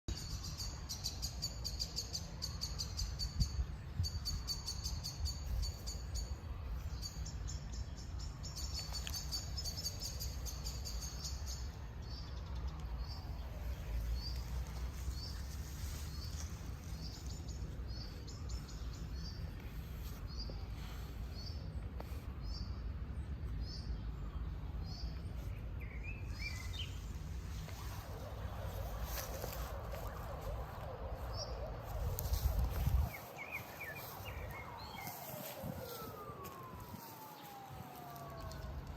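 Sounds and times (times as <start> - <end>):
birds chirping: 0.1 - 38.9
steady low rumble: 0.1 - 38.9.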